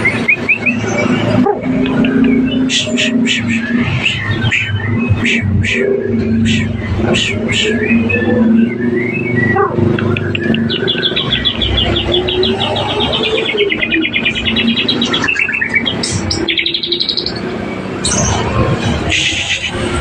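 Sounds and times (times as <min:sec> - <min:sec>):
bird singing fast runs of high notes: 0:00.0 - 0:20.0.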